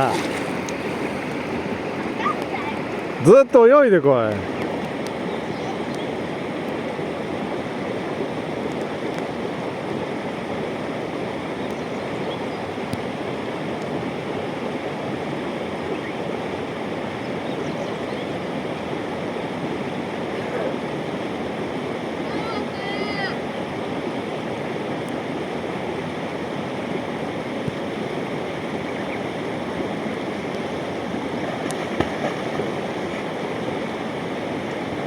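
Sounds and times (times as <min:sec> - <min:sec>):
rushing river water: 0:00.0 - 0:35.0.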